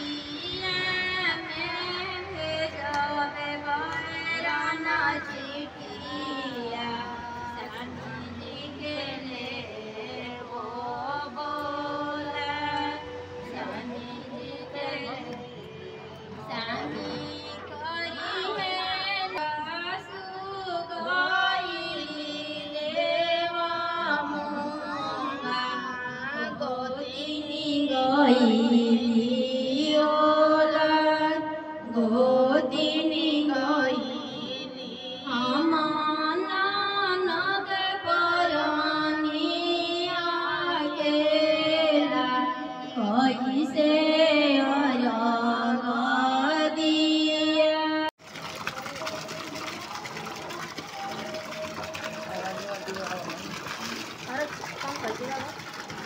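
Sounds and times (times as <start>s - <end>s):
woman singing slow devotional song: 0.0s - 48.2s.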